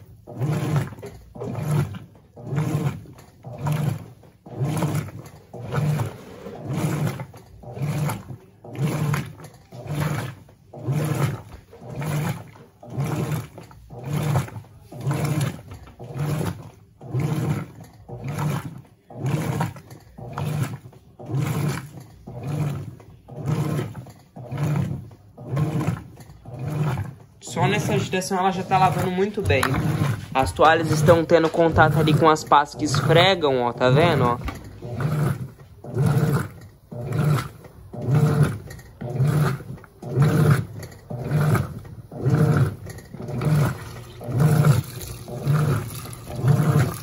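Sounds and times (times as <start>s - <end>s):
washing machine agitating: 0.0s - 47.0s.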